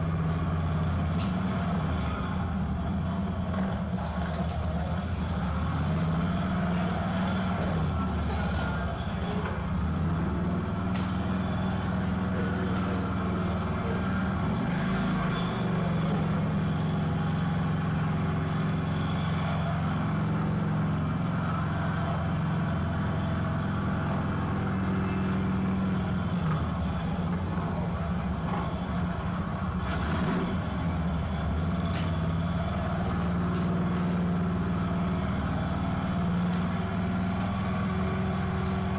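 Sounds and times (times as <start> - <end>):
motorcycle engine at low speed: 0.0 - 38.9.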